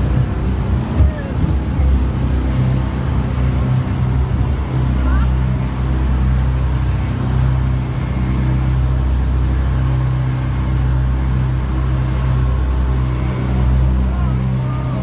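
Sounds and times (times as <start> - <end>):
jet boat engine drone: 0.0 - 15.0.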